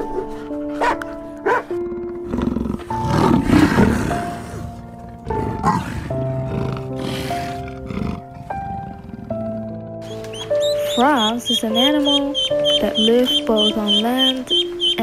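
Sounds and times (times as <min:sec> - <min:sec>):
background music of held notes: 0:00.0 - 0:15.0
big cat calling: 0:02.7 - 0:15.0.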